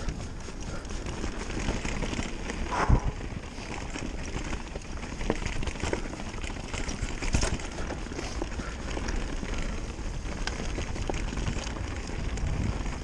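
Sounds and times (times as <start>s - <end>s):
bike rattling and clattering: 0.0s - 13.0s
bike tyres over stones and leaves: 0.0s - 13.0s
wheels knocking on rocks: 0.0s - 13.0s.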